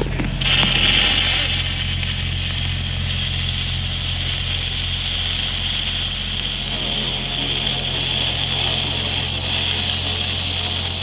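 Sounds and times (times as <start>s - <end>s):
low electrical hum: 0.0s - 11.0s
welding arc hissing: 0.0s - 11.0s.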